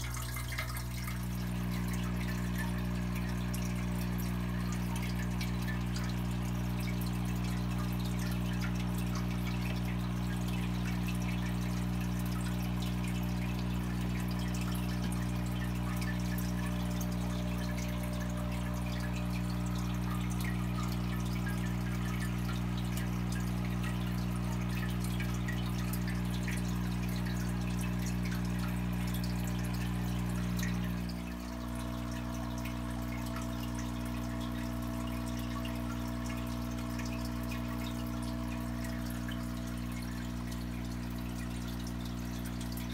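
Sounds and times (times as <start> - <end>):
aquarium filter pump humming: 0.0 - 42.9
water trickling and dripping: 0.0 - 42.9.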